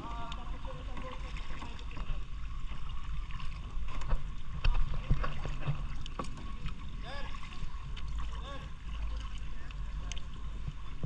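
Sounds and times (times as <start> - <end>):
paddle strokes splashing: 0.0 - 11.0.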